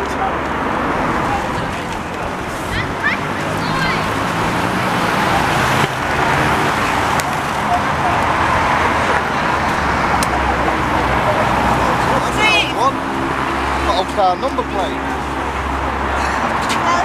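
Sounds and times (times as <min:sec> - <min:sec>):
indistinct voices: 0:00.0 - 0:17.0
road traffic noise: 0:00.0 - 0:17.0.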